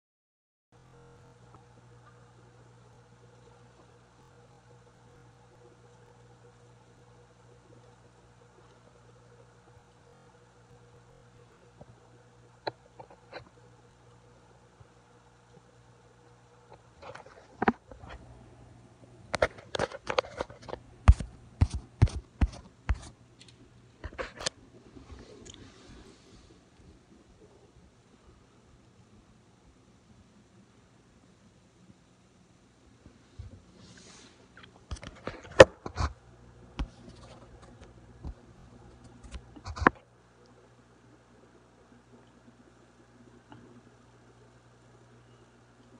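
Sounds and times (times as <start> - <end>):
aquarium filter humming: 0.8 - 45.9.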